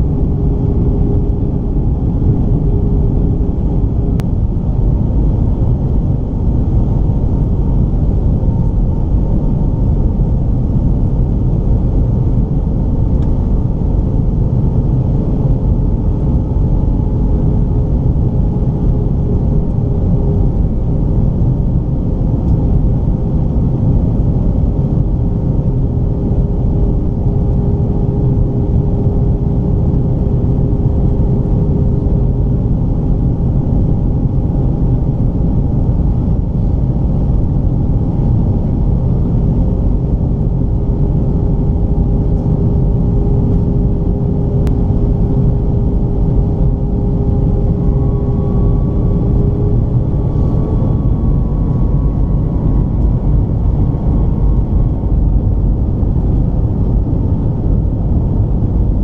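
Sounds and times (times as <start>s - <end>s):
airplane cabin engine rumble: 0.0s - 59.0s
steady hums: 0.0s - 59.0s.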